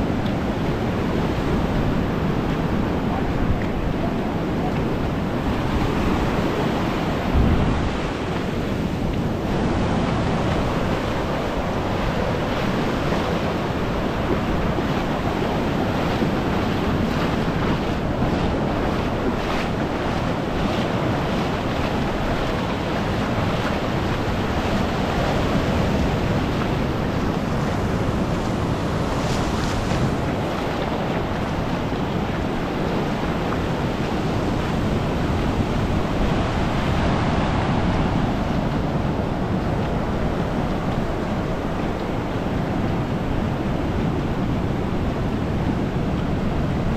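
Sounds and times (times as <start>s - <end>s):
surf washing onto sand beach: 0.0s - 46.9s
wind buffeting microphone: 0.0s - 46.9s.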